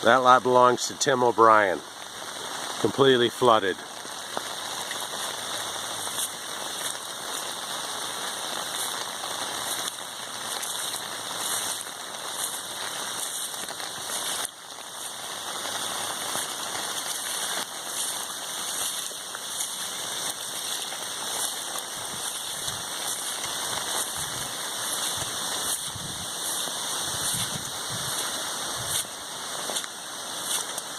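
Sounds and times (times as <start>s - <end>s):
rainwater hissing: 0.0s - 30.9s.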